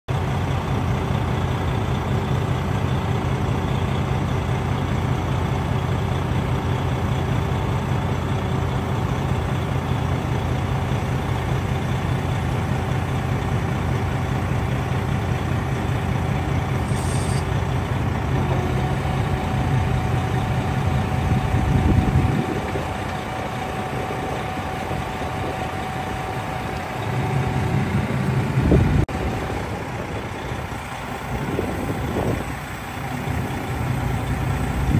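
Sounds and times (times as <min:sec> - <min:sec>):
diesel engine rumble: 0:00.1 - 0:34.9.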